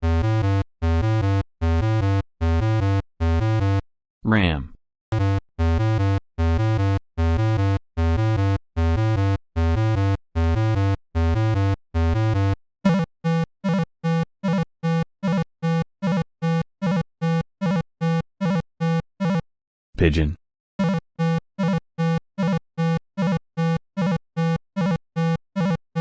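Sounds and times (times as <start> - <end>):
chiptune synthesizer music: 0.0 - 3.8, 5.1 - 19.4, 20.8 - 26.0.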